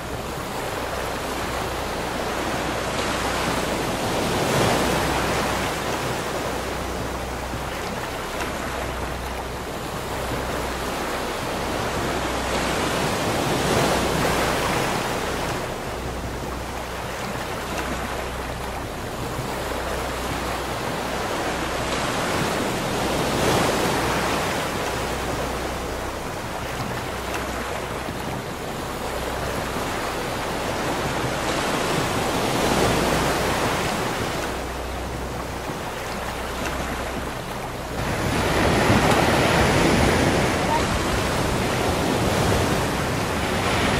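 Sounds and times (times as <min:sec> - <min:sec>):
ocean surf breaking on beach: 0:00.0 - 0:43.9.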